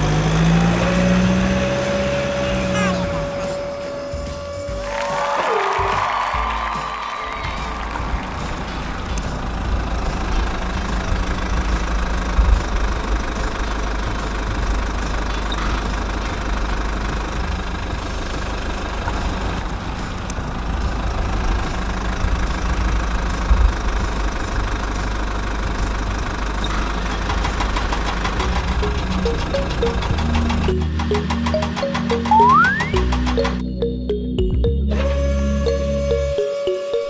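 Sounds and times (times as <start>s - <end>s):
engine idling with knocking: 5.9s - 36.4s.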